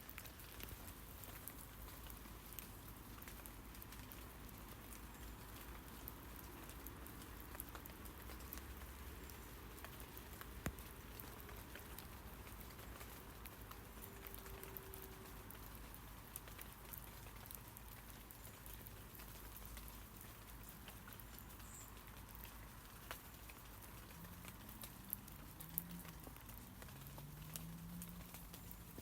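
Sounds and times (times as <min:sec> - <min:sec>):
rain pattering on leaves: 0:00.0 - 0:29.0
water drips: 0:00.0 - 0:29.0.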